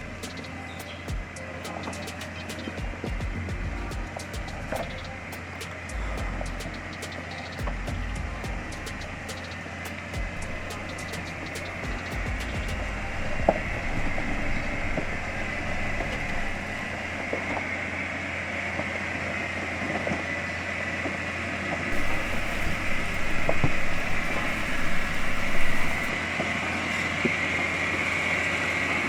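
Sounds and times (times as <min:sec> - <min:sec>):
vehicle engine and drivetrain hum: 0:00.0 - 0:29.0.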